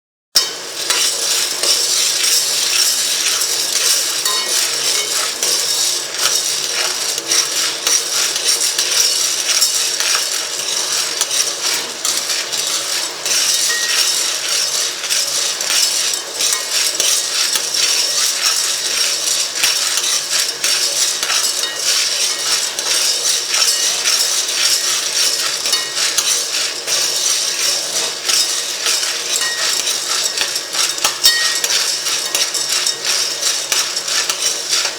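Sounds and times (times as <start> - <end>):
hard objects clattering and clinking: 0.4 - 34.9.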